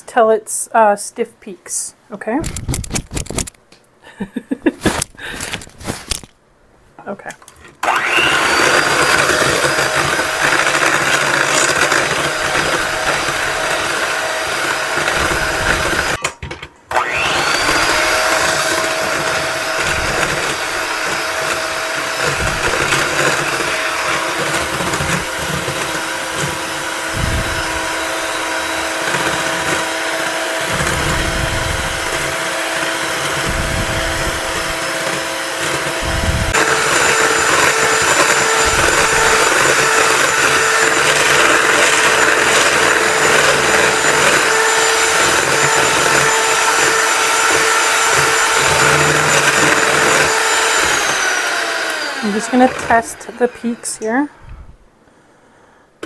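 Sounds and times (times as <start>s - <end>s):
electric hand mixer whirring: 7.8s - 16.3s, 16.9s - 54.8s.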